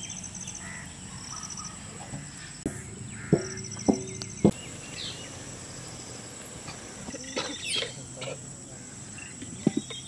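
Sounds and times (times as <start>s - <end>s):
insects: 0.0s - 10.0s
small birds chirping: 0.0s - 10.0s.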